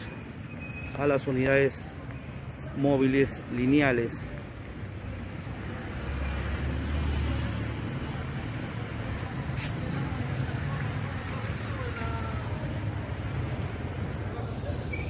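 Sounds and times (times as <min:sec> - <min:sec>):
low rumble of traffic: 0:00.0 - 0:15.0
motorcycles passing: 0:00.0 - 0:15.0.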